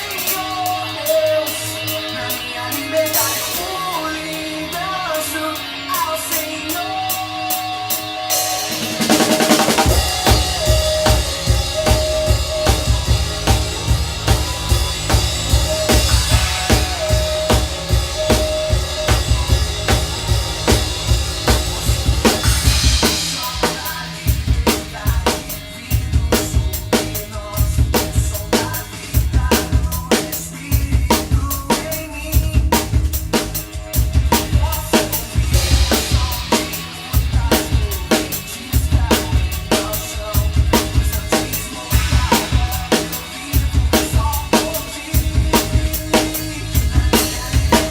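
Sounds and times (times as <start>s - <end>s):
drum kit playing a steady beat: 0.0s - 47.9s
song instruments: 0.0s - 47.9s.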